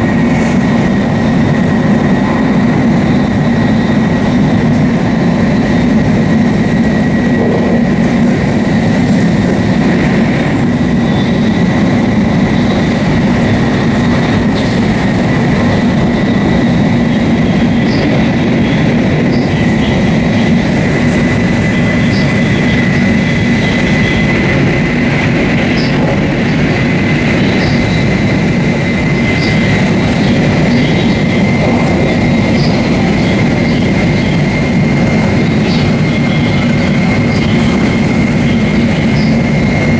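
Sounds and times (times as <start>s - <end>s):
high-pitched whine: 0.0s - 39.9s
train wheels rumbling on rail: 0.0s - 39.9s.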